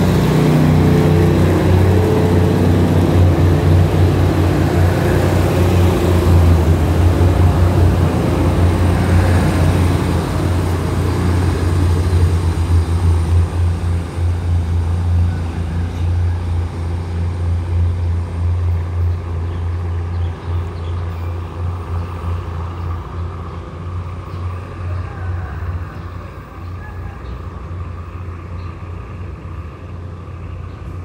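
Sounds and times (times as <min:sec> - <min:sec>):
train engine drone: 0:00.0 - 0:31.0.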